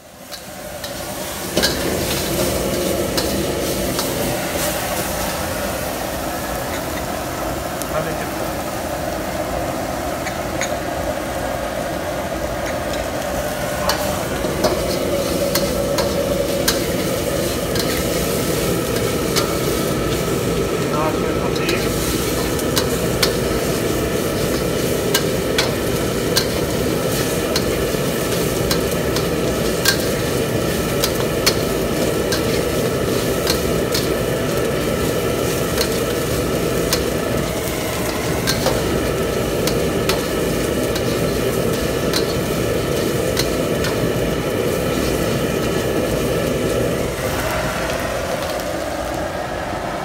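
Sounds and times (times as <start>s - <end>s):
chicken sizzling in a wok: 0.0s - 50.0s
steady background roar: 8.8s - 50.0s.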